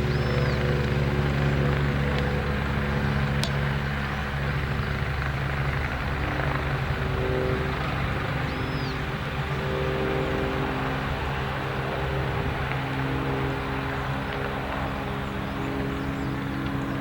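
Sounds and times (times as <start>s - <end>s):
helicopter engines and rotor: 0.0s - 17.0s.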